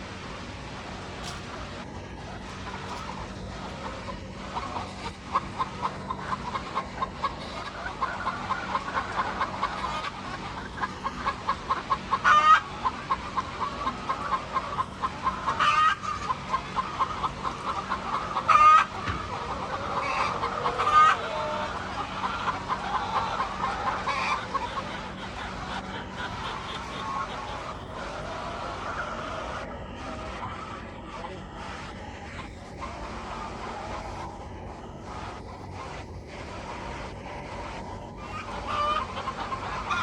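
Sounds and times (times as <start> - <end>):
hens clucking: 0.0 - 40.0
hens squawking: 1.0 - 40.0.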